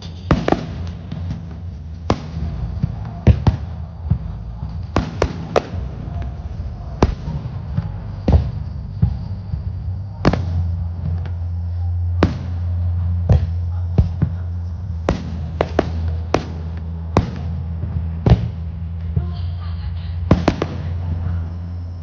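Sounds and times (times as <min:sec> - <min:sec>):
fireworks bangs: 0:00.0 - 0:19.4, 0:20.3 - 0:21.8
low hum: 0:00.0 - 0:22.0.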